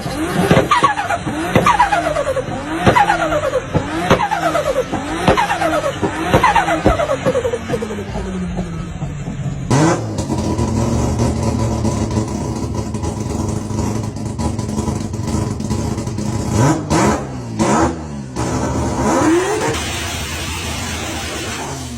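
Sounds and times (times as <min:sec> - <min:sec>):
car engine revving and accelerating: 0:00.0 - 0:21.9.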